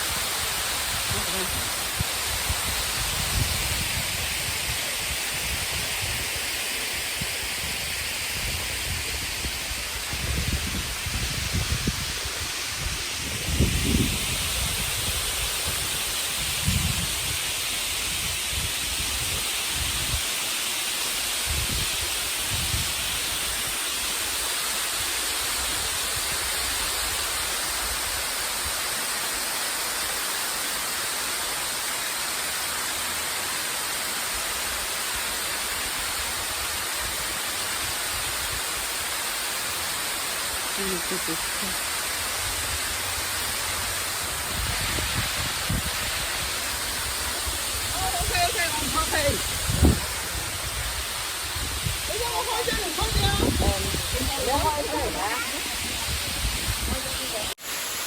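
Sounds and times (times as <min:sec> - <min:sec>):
flowing water hiss: 0:00.0 - 0:58.0.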